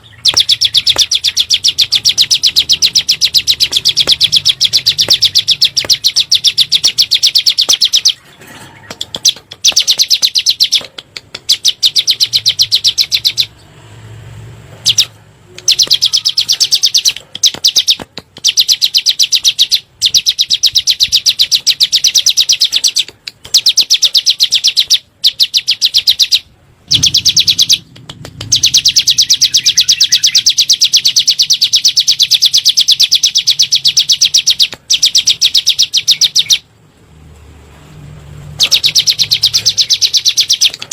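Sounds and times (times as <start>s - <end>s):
bird singing sharp high notes: 0.0s - 10.8s, 11.5s - 13.7s, 14.8s - 36.7s, 38.5s - 40.9s.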